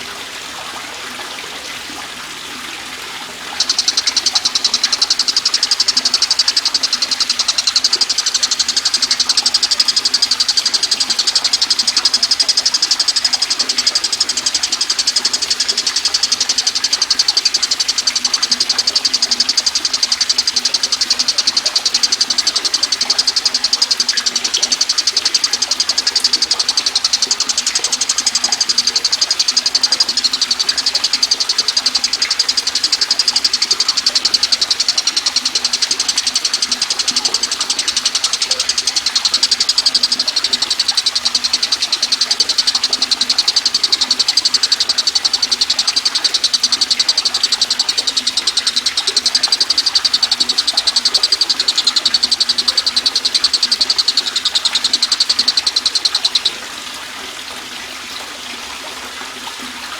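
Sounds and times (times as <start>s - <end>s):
kingfisher rattling trill: 3.4s - 56.6s.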